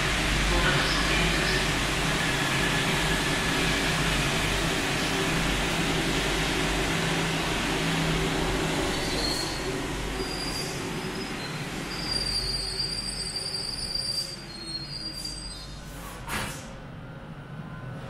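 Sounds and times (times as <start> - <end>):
train rumbling into station: 0.0 - 18.0.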